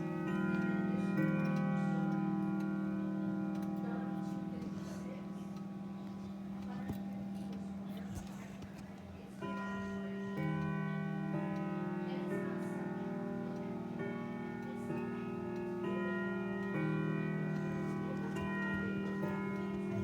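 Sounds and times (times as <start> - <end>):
clock chiming a melody: 0.0 - 20.0
clock ticking: 0.0 - 20.0.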